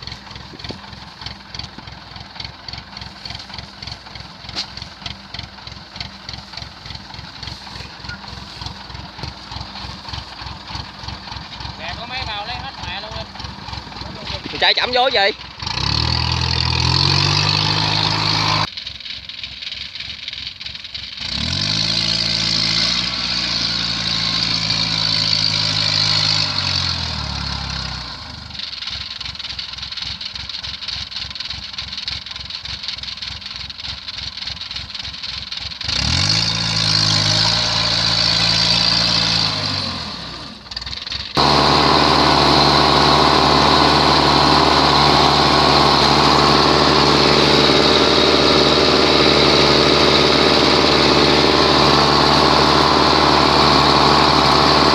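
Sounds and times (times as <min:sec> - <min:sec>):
harvester diesel engine revving: 0:00.0 - 0:18.7, 0:21.1 - 0:32.0, 0:33.2 - 0:54.9.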